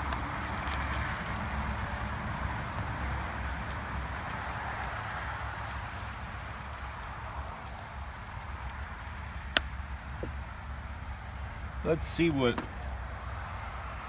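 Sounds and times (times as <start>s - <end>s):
background rumble and hiss: 0.0s - 14.0s.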